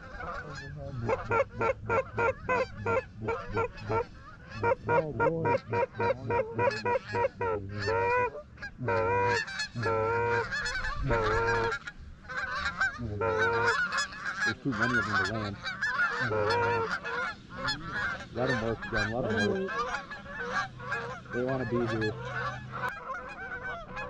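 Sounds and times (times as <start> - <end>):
goose clucking and honking: 0.0 - 24.0.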